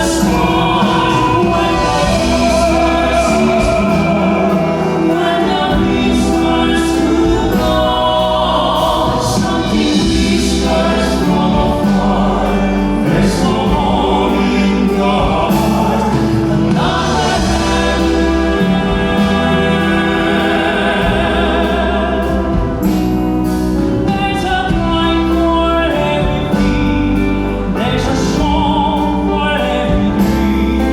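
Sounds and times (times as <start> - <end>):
instrumental backing: 0.0 - 30.9
male vocal quartet singing: 0.0 - 30.9.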